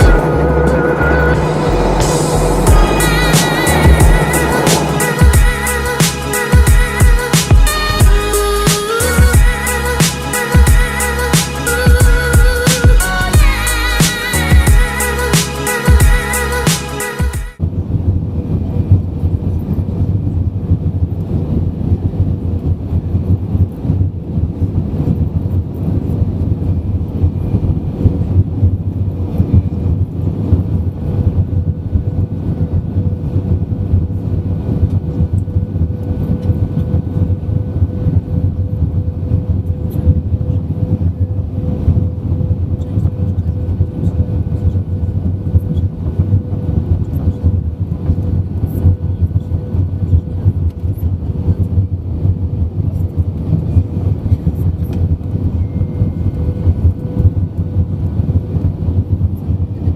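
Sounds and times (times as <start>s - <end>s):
aircraft cabin rumble: 0.0s - 10.0s, 18.1s - 59.9s.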